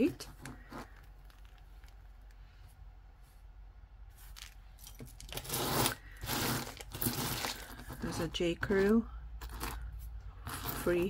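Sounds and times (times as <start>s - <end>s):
rustling scrapes: 0.1s - 3.5s, 4.1s - 11.0s.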